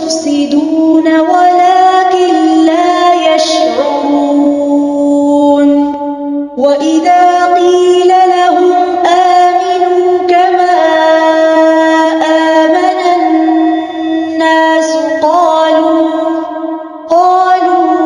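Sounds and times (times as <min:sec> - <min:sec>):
person chanting recitation: 0:00.0 - 0:06.0, 0:06.6 - 0:18.0.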